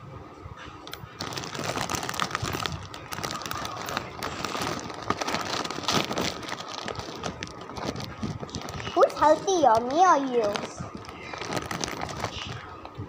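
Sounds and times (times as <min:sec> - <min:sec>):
plastic bag crinkling: 0:00.9 - 0:12.9.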